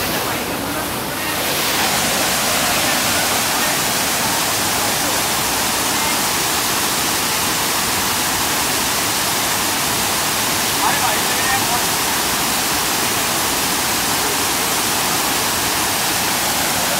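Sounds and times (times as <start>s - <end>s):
waterfall rushing into a pool: 0.0s - 16.9s.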